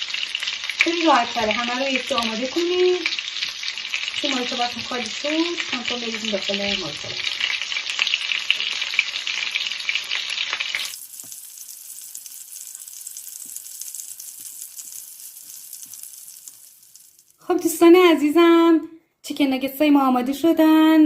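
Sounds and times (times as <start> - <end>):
food sizzling in hot oil: 0.0 - 18.3.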